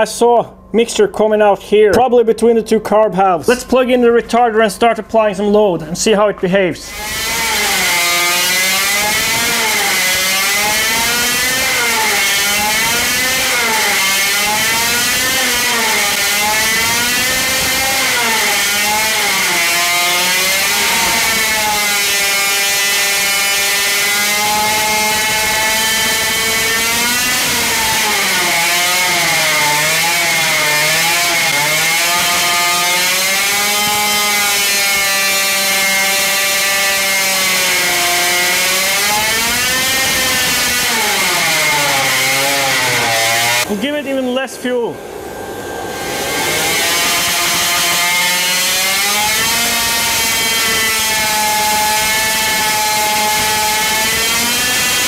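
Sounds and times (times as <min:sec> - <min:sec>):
two-stroke engine revving high: 0:06.9 - 0:43.7, 0:45.2 - 0:55.0.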